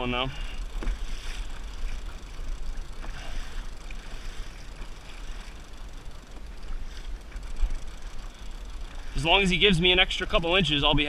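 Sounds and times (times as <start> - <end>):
water lapping and splashing: 0.4 - 11.0.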